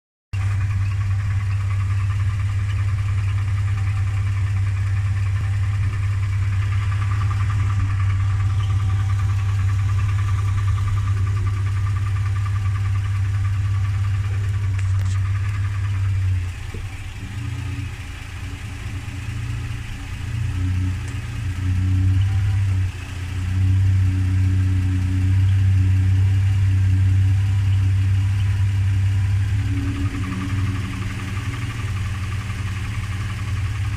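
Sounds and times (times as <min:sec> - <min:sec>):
engine idling: 0:00.3 - 0:33.9.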